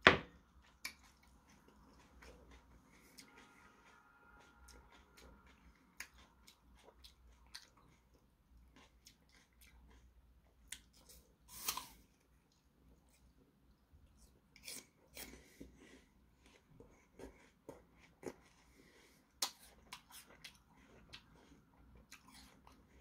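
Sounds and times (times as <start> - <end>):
crisp chewing: 0.6 - 23.0.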